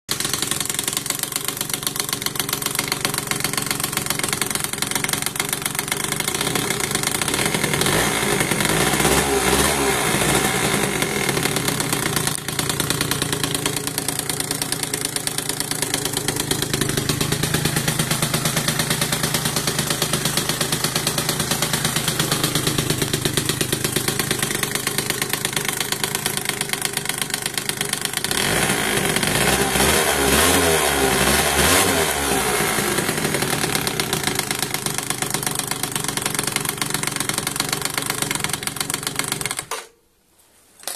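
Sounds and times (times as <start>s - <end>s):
scooter engine idling with rattle: 0.1s - 40.1s.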